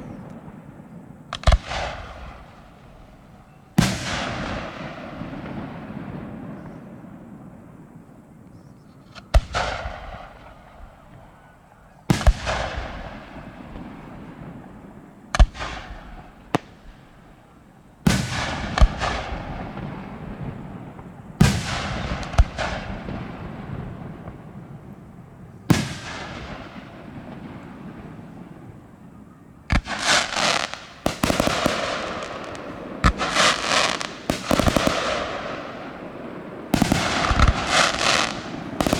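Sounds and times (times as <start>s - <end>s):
firework shells bursting with crackle: 0.0s - 8.0s, 12.1s - 38.9s.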